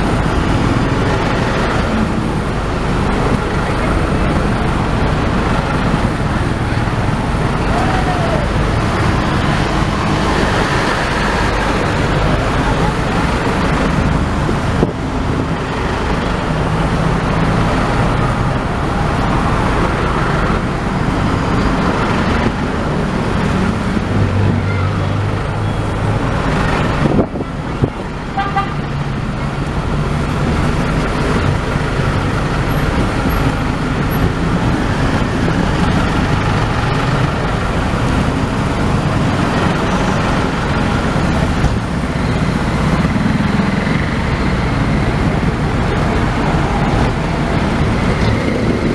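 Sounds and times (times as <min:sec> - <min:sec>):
road traffic: 0:00.0 - 0:48.9
vehicle engine running: 0:00.0 - 0:48.9.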